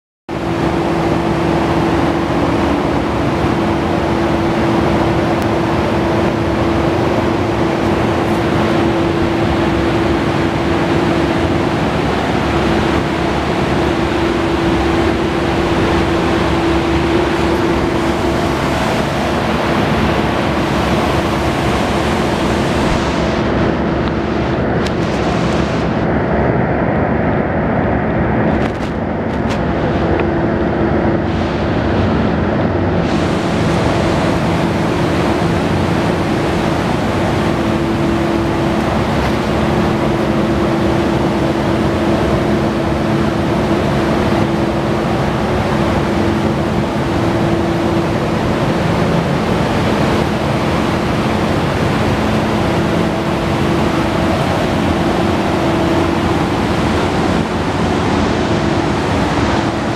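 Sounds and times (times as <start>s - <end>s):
steady whine: 0.3s - 59.9s.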